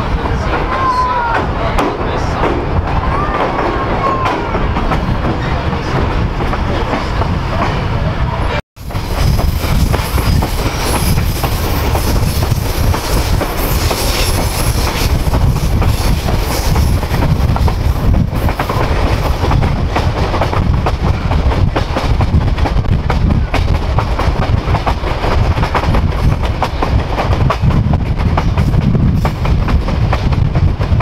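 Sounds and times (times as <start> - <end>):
train wheel and rail rumble: 0.0 - 31.0.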